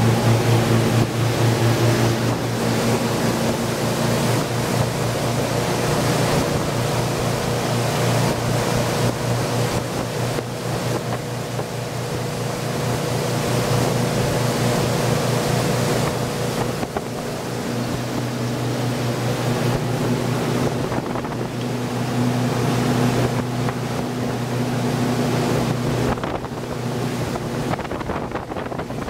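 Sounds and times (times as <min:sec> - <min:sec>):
boat engines running: 0:00.0 - 0:29.0
rush of wind and water: 0:00.0 - 0:29.0.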